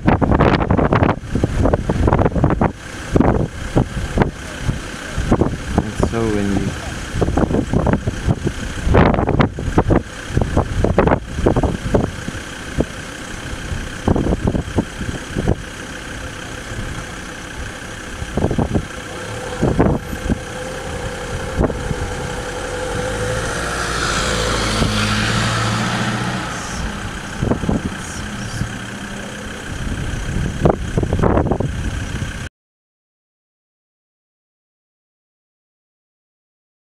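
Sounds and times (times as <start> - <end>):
vehicle engine running: 0.0 - 32.5.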